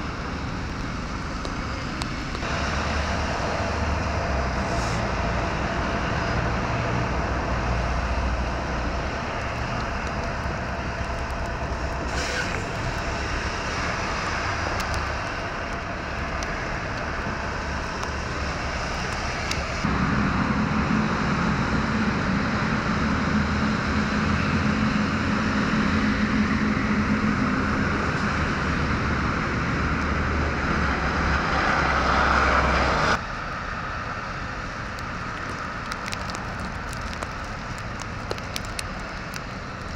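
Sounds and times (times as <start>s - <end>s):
engine hum: 0.0s - 39.9s
road traffic hiss and rumble: 0.0s - 39.9s.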